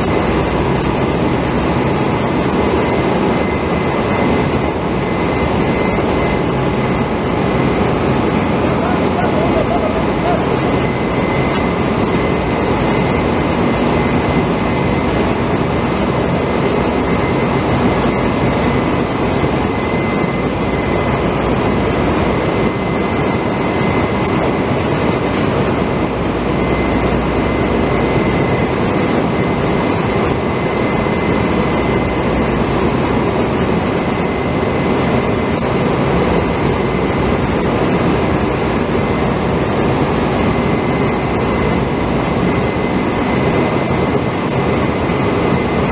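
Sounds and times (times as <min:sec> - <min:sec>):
machinery with high whine: 0:00.0 - 0:45.9.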